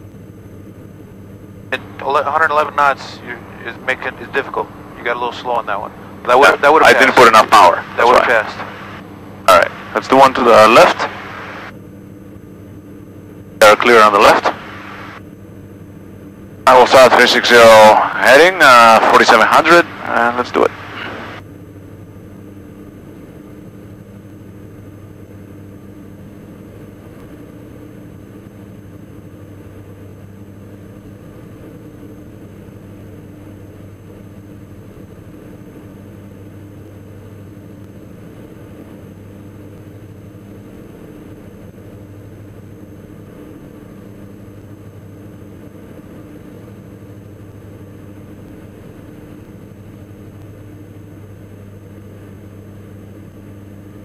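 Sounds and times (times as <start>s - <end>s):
airplane engines droning in flight: 0.0s - 54.0s.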